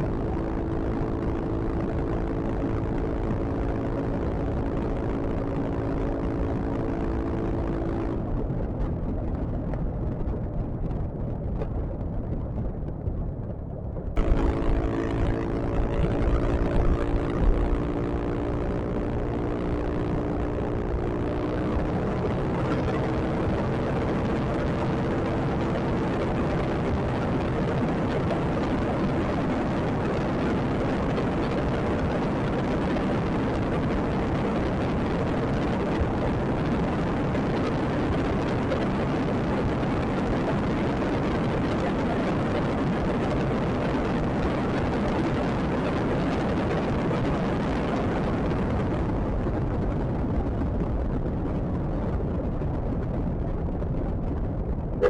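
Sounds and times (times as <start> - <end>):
scooter engine drone: 0.0 - 55.0
wind rushing over microphone: 0.0 - 55.0.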